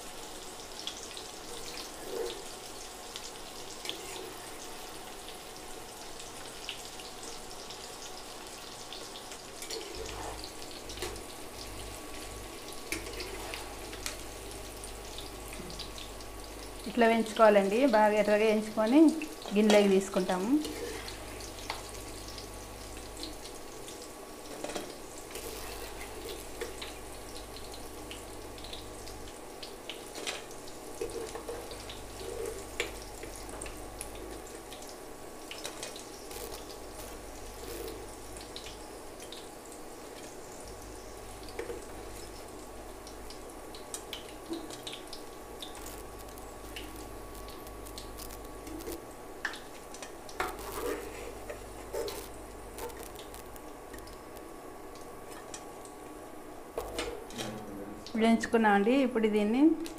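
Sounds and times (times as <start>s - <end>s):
fritters deep-frying in hot oil: 0.0s - 59.9s.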